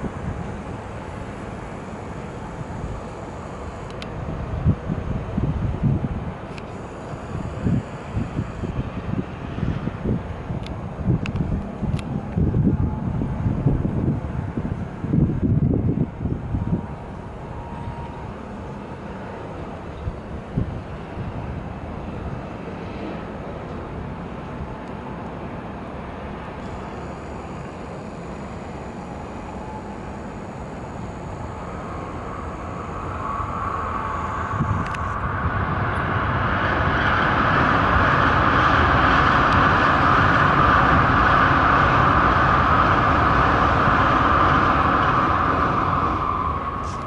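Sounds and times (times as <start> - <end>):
bullet train rushing past: 7.1 - 47.0.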